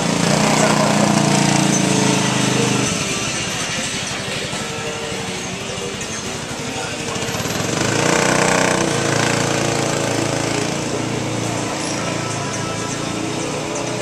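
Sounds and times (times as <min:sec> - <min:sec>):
engine running with rapid rattle: 0:00.0 - 0:14.0.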